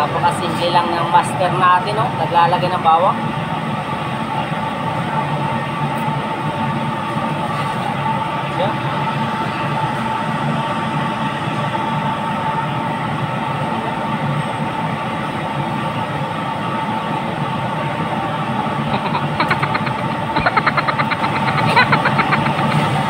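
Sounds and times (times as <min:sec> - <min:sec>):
machine drone with high hum: 0:00.0 - 0:23.0.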